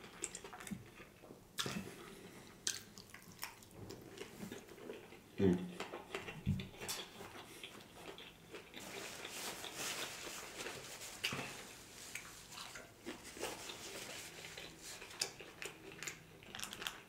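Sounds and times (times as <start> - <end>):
close chewing and biting: 0.0 - 17.0.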